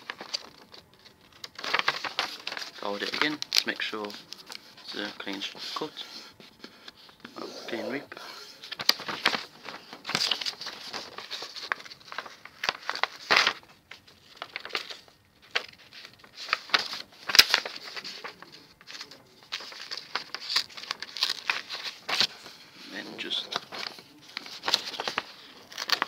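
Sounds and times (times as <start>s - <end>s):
paper crackling and rustling: 0.0s - 26.0s
sharp paper crinkles: 0.0s - 26.0s.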